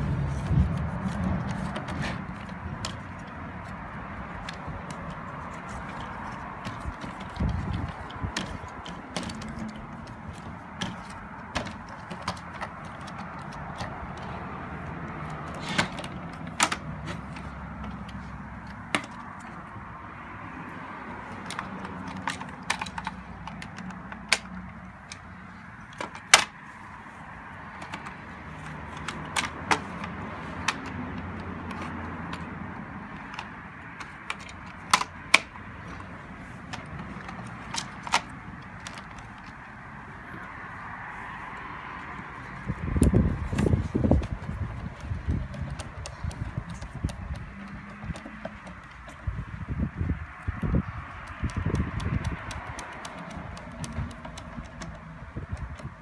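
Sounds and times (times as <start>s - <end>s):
plastic parts clicking and rattling: 0.0s - 20.2s, 21.2s - 40.6s, 41.6s - 56.0s.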